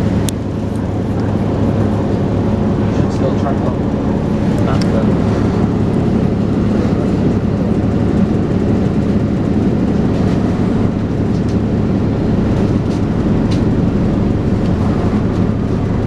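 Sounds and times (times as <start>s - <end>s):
bus engine drone: 0.0s - 16.0s.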